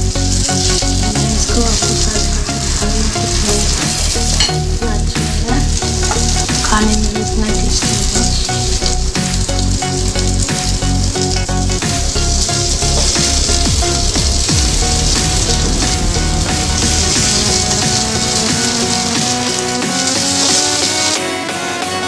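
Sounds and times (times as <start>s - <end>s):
wooden spatula scraping: 0.0s - 21.2s
chicken sizzling in a grill pan: 0.0s - 21.3s.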